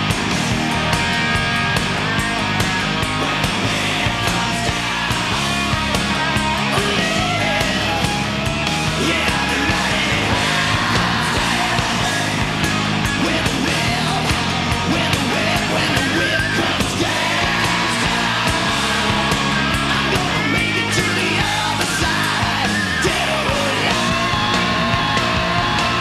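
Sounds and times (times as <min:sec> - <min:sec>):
hard rock song: 0:00.0 - 0:26.0.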